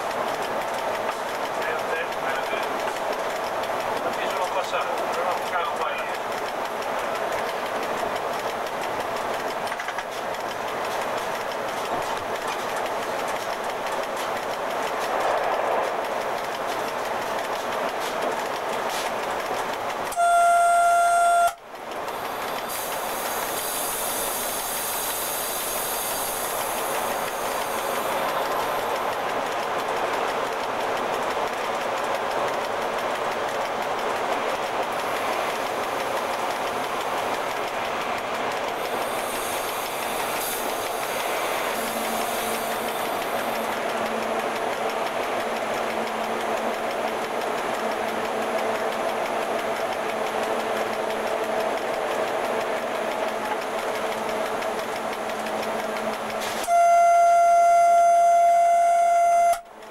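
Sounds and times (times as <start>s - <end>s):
locomotive running noise: 0.0s - 59.9s.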